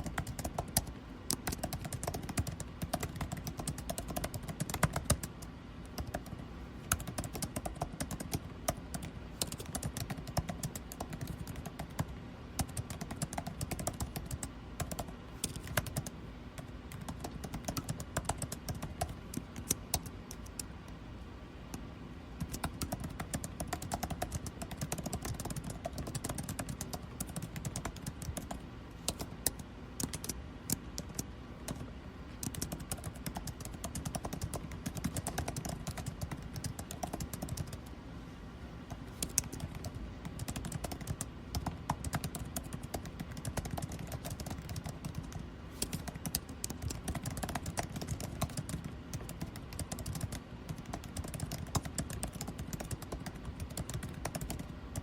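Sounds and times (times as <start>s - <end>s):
typing on computer keyboard: 0.0s - 20.7s, 22.4s - 37.9s, 38.9s - 55.0s
air conditioning hum: 0.0s - 55.0s.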